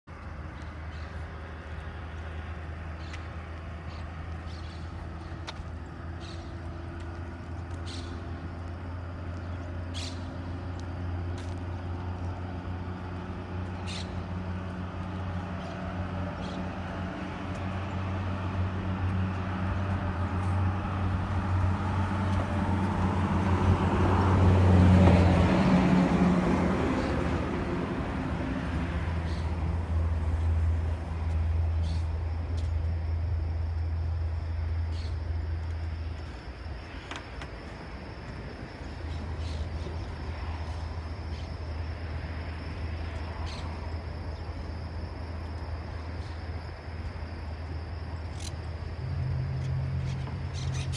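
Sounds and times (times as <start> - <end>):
low engine hum: 0.0 - 50.9.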